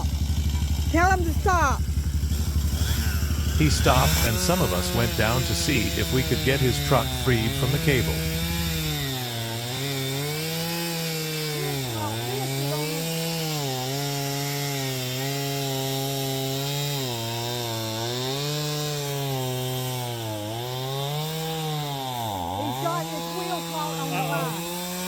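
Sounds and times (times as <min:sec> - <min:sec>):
chainsaw cutting: 0:00.0 - 0:25.0.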